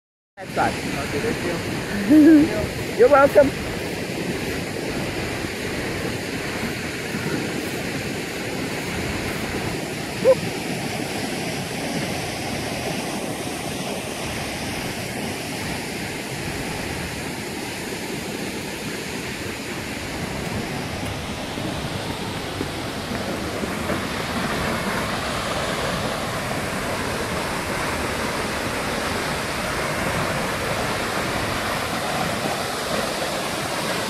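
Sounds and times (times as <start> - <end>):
waterfall rushing: 0.4 - 34.0.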